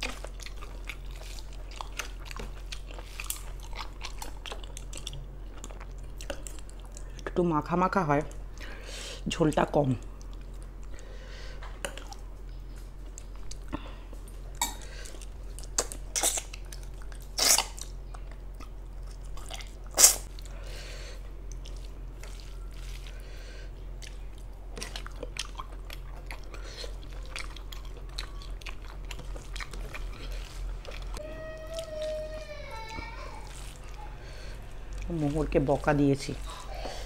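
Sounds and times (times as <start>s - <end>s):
wet chewing and mouth smacking: 0.0s - 7.3s, 10.0s - 11.0s, 11.6s - 20.6s, 21.4s - 37.0s
steady low hum: 0.0s - 37.0s.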